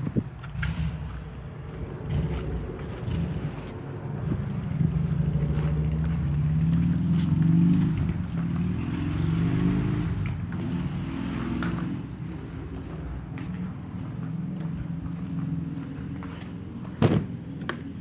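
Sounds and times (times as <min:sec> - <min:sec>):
engine revving: 0:00.5 - 0:16.5.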